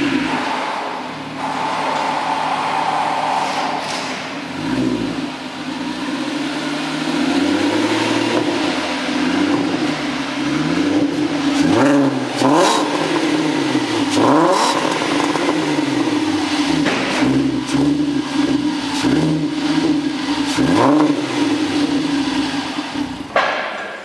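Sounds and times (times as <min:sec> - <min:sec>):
car engine revving: 0:00.0 - 0:23.8.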